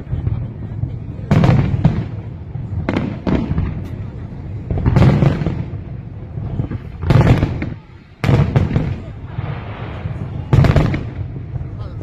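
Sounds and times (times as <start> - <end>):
fireworks bursting with booms: 0.0 - 12.0.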